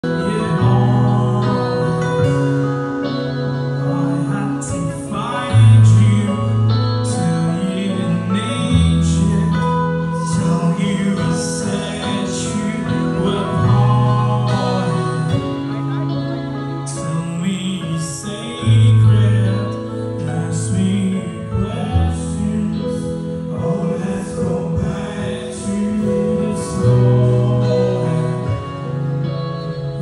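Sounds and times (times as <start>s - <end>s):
bass notes: 0.0s - 30.0s
electric guitar: 0.0s - 30.0s
keyboard: 0.0s - 30.0s
person singing: 0.0s - 30.0s.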